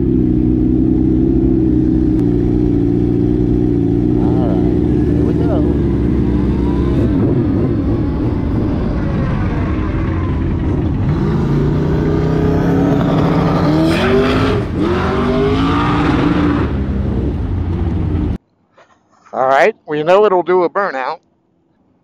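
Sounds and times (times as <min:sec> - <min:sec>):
engine running and revving: 0:00.0 - 0:18.4.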